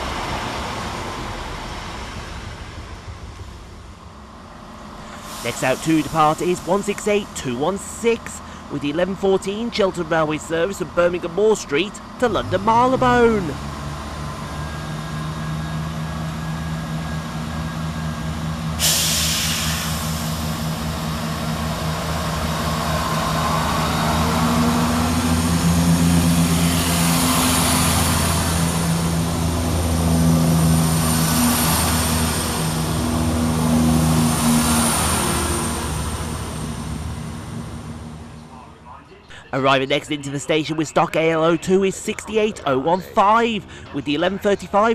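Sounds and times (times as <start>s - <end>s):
diesel train engines under load: 0.0s - 44.9s.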